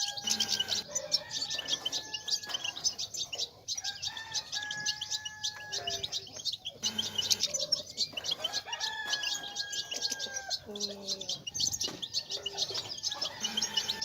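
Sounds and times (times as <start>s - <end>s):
goldfinches twittering: 0.0s - 14.0s.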